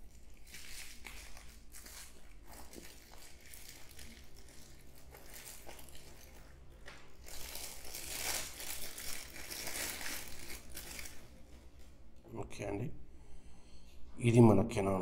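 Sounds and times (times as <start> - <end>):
bubble wrap and plastic crinkling: 0.0 - 12.0.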